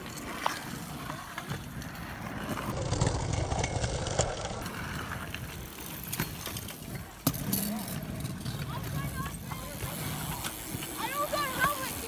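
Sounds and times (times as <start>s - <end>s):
bike tyres rolling on pavement: 0.0s - 12.0s.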